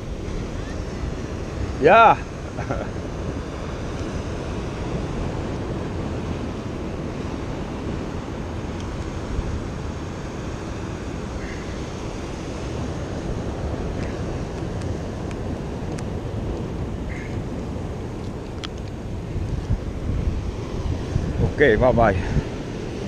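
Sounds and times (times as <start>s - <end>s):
ocean surf: 0.0s - 23.0s
wind noise on microphone: 0.0s - 23.0s.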